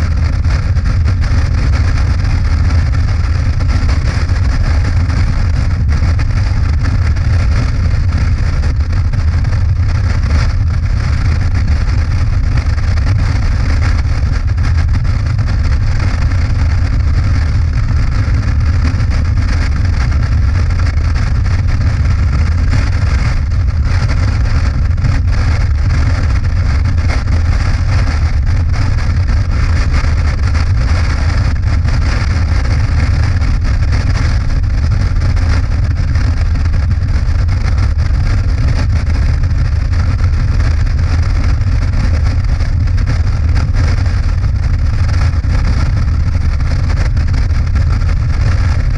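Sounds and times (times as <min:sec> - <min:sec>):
motorcycle engine rumble: 0:00.0 - 0:48.7
rushing wind noise: 0:00.0 - 0:48.9.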